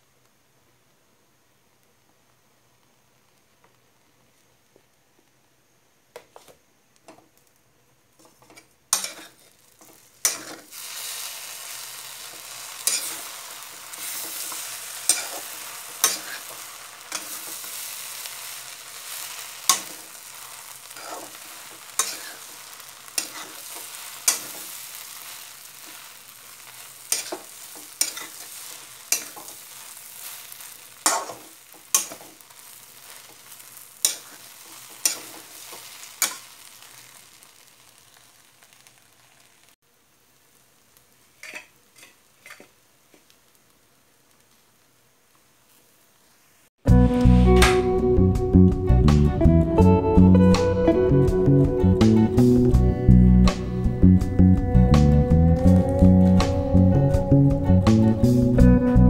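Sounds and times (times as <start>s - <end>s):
food sizzling in a pan: 6.2s - 48.6s, 50.6s - 58.9s.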